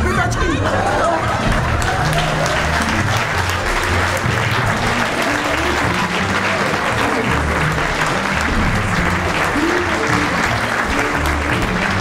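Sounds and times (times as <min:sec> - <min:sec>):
music playing: 0:00.0 - 0:12.0
audience applauding: 0:00.7 - 0:12.0.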